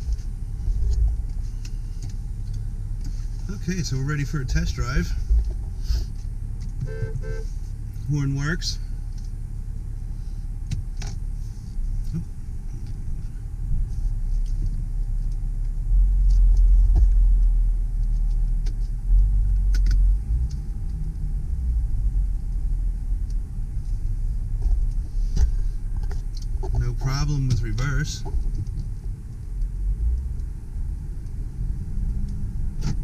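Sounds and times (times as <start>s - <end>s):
diesel engine rumble: 0.0s - 33.0s.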